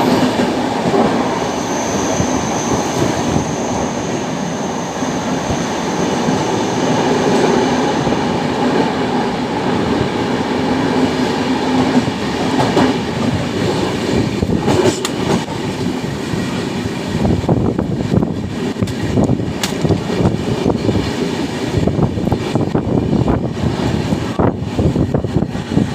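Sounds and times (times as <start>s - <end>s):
train rumbling on rails: 0.0s - 25.9s.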